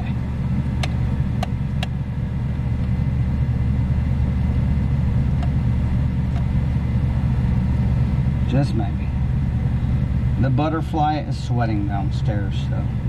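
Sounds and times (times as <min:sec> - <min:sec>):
hvac equipment drone: 0:00.0 - 0:13.0.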